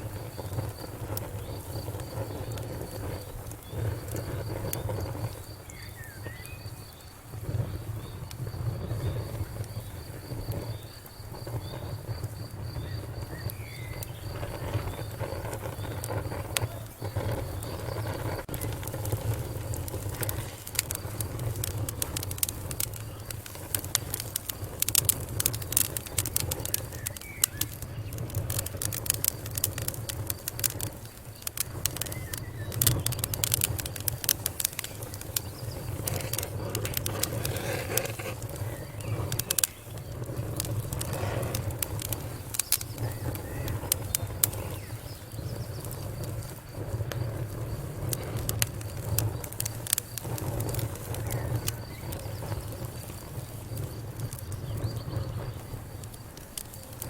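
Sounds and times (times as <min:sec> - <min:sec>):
faint high cricket chirp: 0:00.0 - 0:57.0
wood fire crackling and popping: 0:00.0 - 0:57.0.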